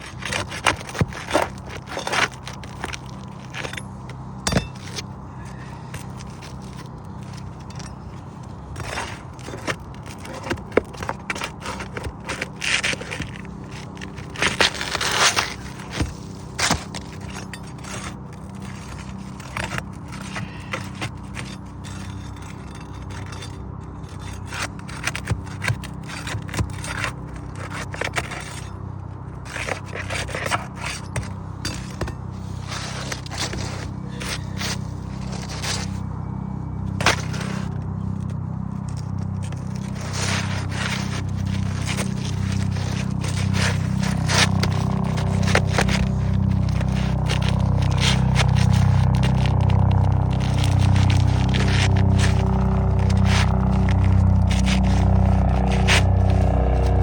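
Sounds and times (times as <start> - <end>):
hand tools scraping shingles: 0.0 - 57.0
steady low hum: 0.0 - 57.0.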